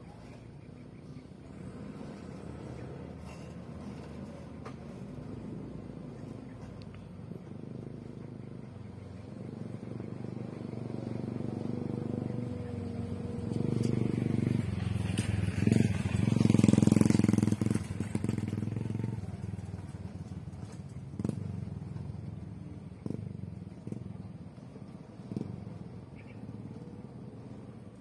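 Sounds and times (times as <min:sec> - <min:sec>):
dump truck diesel engine: 0:00.0 - 0:28.0.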